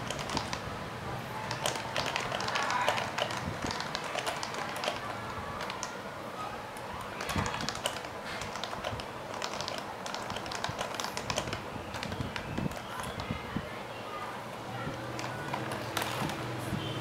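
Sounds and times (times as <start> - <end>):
fast keyboard typing: 0.0 - 0.7, 1.3 - 6.0, 6.8 - 13.4, 14.9 - 16.6.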